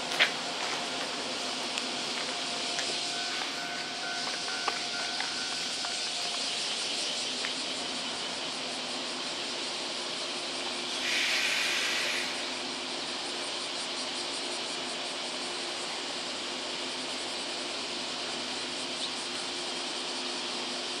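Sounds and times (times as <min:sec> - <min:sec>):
loud hiss: 0:00.0 - 0:18.8
electric train pulling in: 0:00.0 - 0:21.0
steady high hiss: 0:00.0 - 0:21.0.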